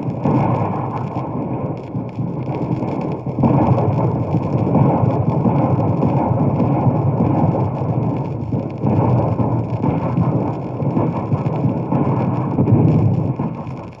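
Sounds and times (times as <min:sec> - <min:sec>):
dense battle gunfire: 0:00.0 - 0:14.0
record crackle: 0:00.0 - 0:14.0.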